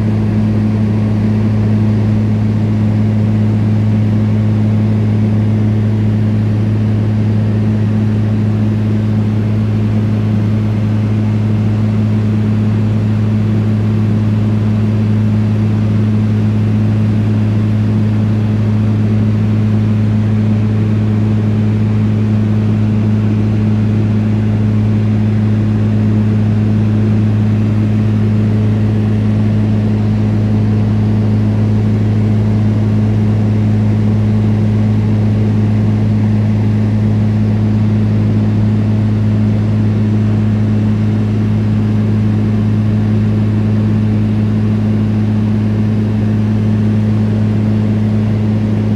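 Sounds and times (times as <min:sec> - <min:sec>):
propeller plane cabin drone: 0:00.0 - 0:48.9.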